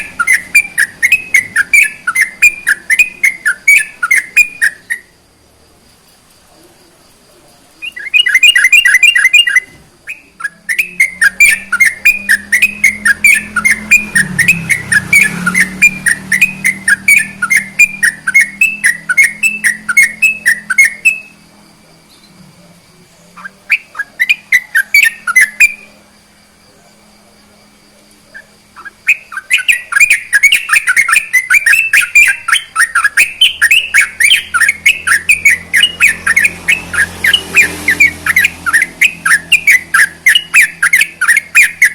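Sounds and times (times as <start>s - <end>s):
bird chattering song: 0.0s - 5.2s, 7.7s - 27.2s, 28.1s - 41.9s.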